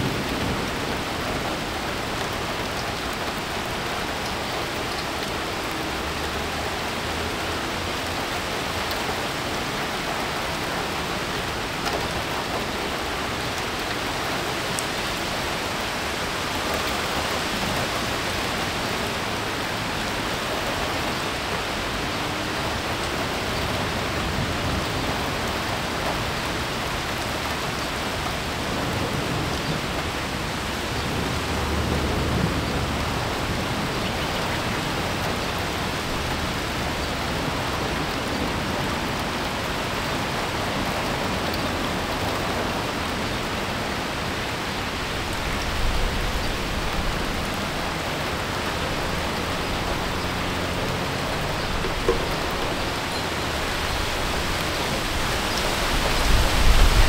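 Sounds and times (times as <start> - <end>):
light rain: 0.0 - 57.0
gusty wind: 6.7 - 57.0.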